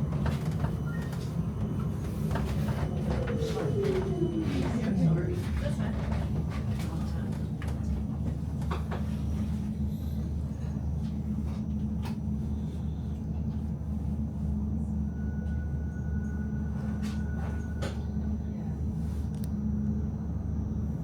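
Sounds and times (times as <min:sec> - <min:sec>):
tram rumbling on track: 0:00.0 - 0:21.0.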